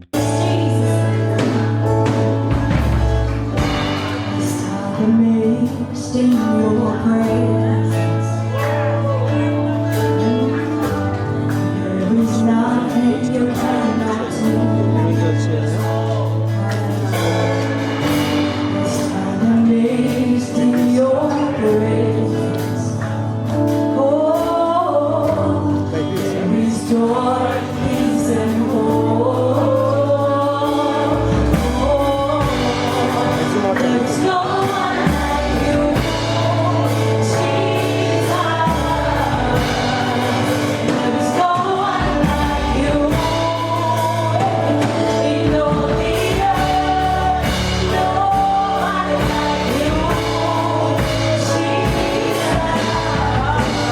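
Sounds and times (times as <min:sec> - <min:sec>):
choir singing gospel: 0:00.0 - 0:53.9
sustained bass notes: 0:00.0 - 0:53.9.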